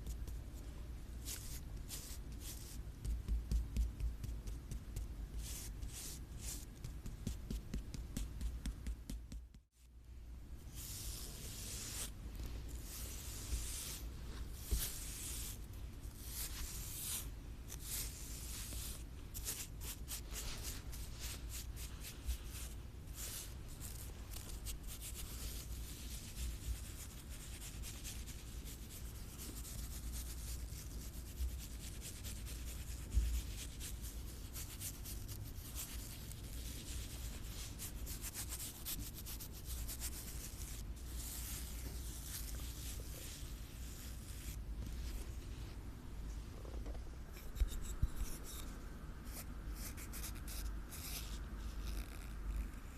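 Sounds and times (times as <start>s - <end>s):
scratching and rubbing on object: 0.0s - 9.7s, 10.6s - 45.8s, 47.3s - 52.9s.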